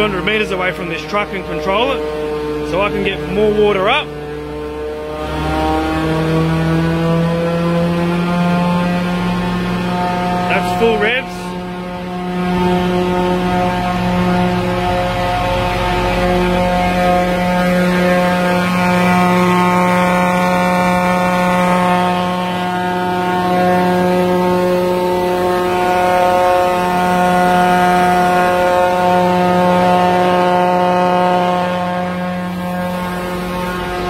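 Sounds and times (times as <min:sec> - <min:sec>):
truck engine and pump droning: 0:00.0 - 0:34.0.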